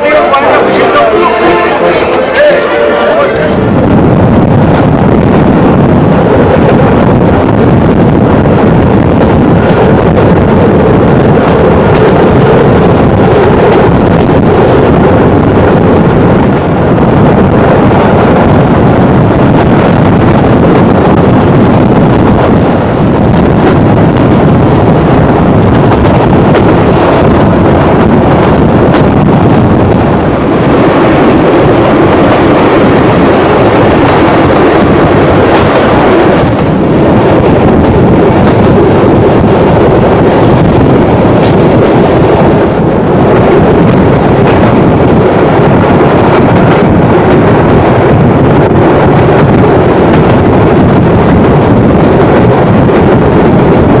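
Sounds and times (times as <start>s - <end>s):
train running noise: 0.0s - 54.0s
wind buffeting microphone: 0.0s - 54.0s.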